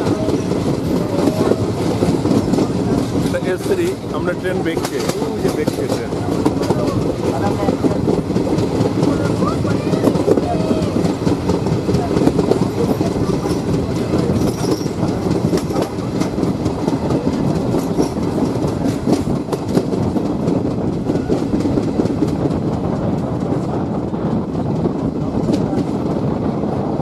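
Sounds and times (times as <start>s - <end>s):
wheels clicking over rail joints: 0.0s - 23.3s
train rumbling: 0.0s - 27.0s.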